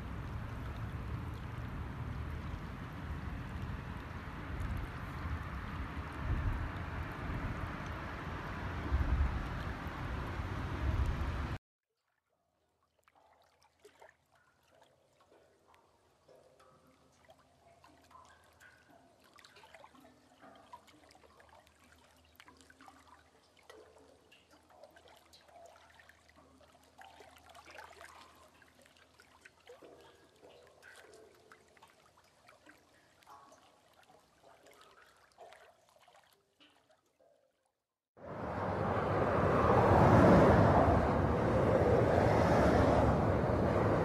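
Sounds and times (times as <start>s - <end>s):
water trickling and gurgling: 0.0s - 11.3s, 12.1s - 44.0s
water drips and splashes: 0.0s - 44.0s.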